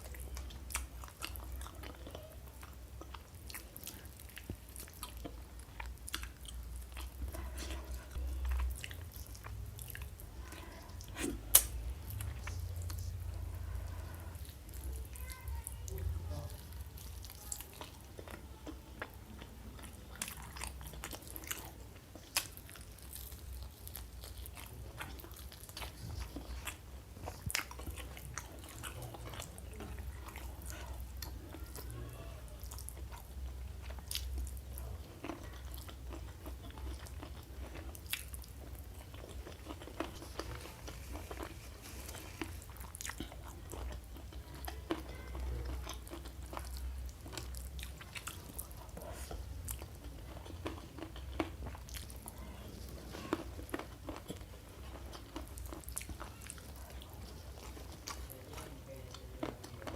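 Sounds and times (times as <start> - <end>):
chewing with crisp crunches: 0.0 - 59.9.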